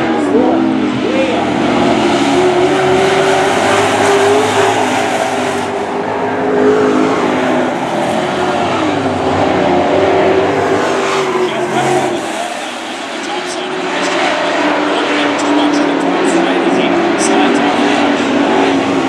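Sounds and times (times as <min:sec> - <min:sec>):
race truck engines running hard: 0:00.0 - 0:19.0.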